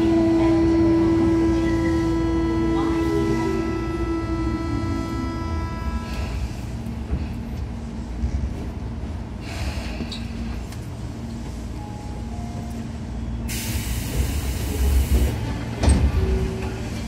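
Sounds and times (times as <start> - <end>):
train rumbling from inside: 0.0 - 17.0.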